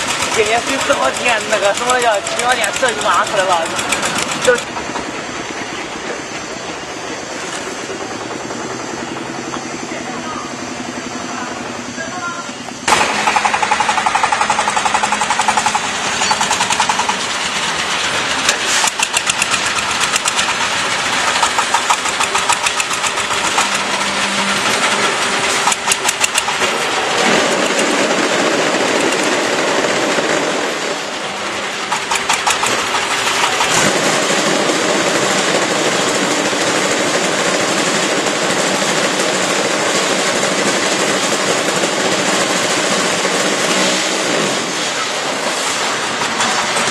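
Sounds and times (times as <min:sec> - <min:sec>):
rapid mechanical rattling: 0:00.0 - 0:12.0, 0:12.8 - 0:46.9
block making machine running: 0:00.0 - 0:46.9.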